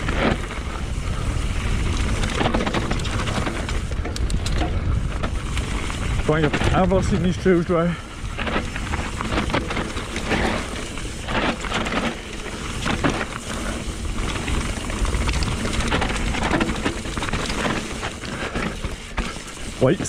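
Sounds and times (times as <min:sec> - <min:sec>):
bike rattling over stones: 0:00.0 - 0:20.0
bike tyres crunching on stony trail: 0:00.0 - 0:20.0.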